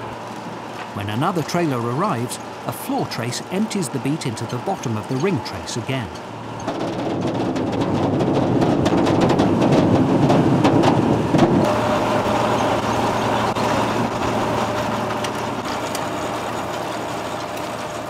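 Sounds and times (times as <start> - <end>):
harvester engine humming: 0.0 - 18.0.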